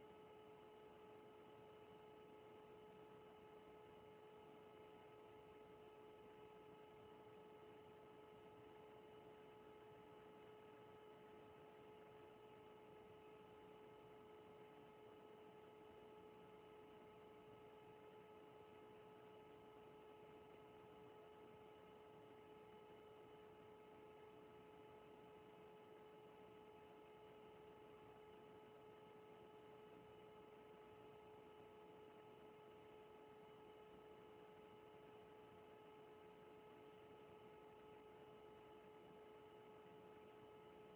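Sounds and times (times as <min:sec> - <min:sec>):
faint electrical hum: 0:00.0 - 0:40.9.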